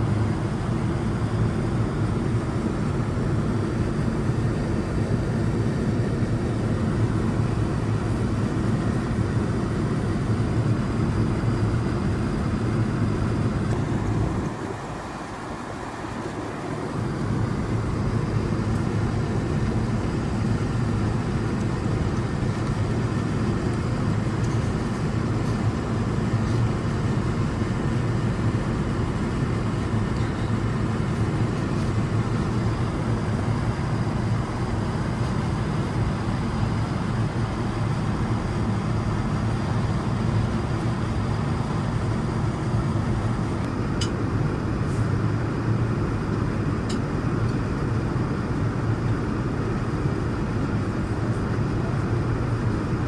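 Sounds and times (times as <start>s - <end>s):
airliner cabin hum: 0.0s - 53.0s.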